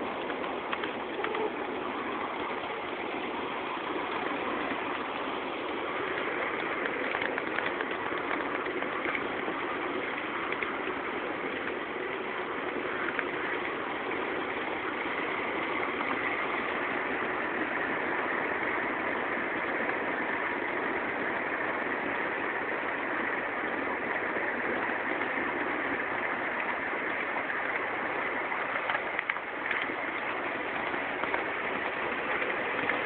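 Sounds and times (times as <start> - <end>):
small vehicle running hiss: 0.0 - 33.0.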